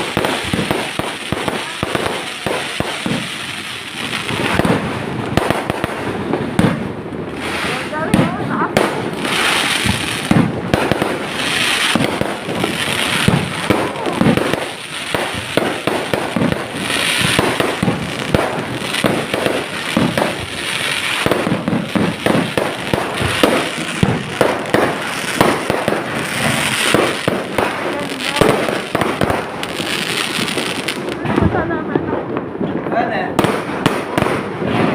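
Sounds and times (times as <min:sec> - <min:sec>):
fireworks bangs and pops: 0:00.0 - 0:34.9
fireworks hissing crackle: 0:00.0 - 0:34.9.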